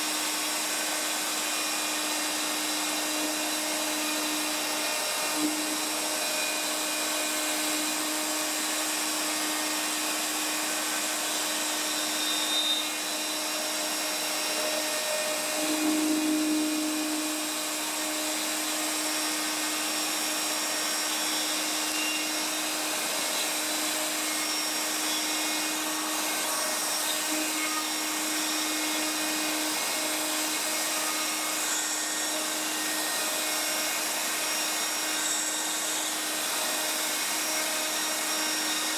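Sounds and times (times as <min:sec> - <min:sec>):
router cutting plywood: 0:00.0 - 0:38.9
shop vacuum running: 0:00.0 - 0:38.9.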